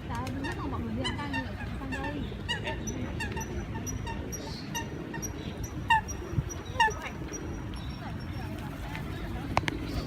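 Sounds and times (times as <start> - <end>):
flock of birds calling: 0.0 - 10.0.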